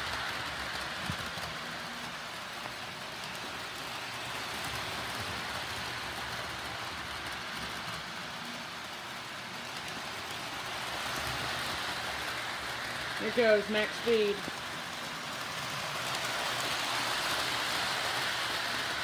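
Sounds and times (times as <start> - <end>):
model train wheels rumbling: 0.0 - 19.0.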